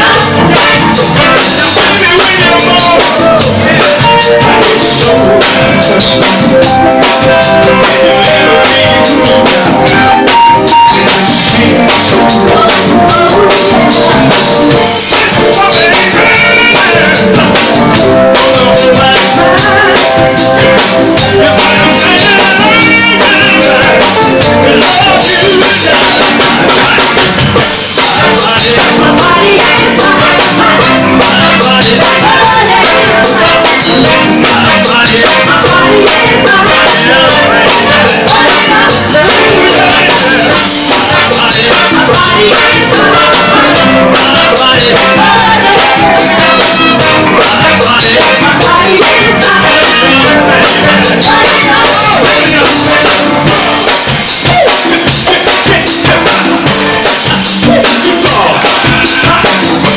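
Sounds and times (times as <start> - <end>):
congas: 0.0 - 59.9
horn section: 0.0 - 59.9
people singing: 0.0 - 59.9
soul-funk band playing: 0.0 - 59.9.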